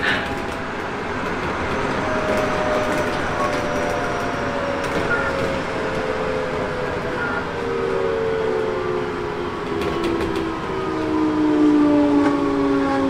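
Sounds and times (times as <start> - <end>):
rumble of wheels on rail: 0.0 - 13.0.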